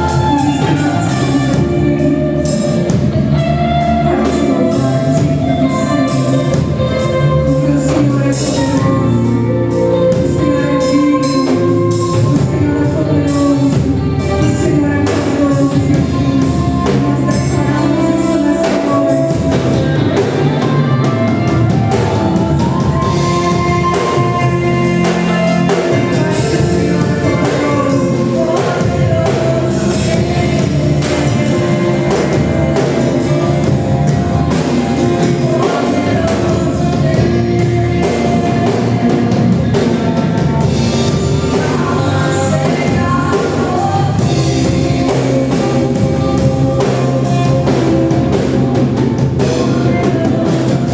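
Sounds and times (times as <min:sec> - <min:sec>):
drum kit: 0:00.0 - 0:50.9
sung vocals: 0:00.0 - 0:50.9
worship band playing: 0:00.0 - 0:50.9.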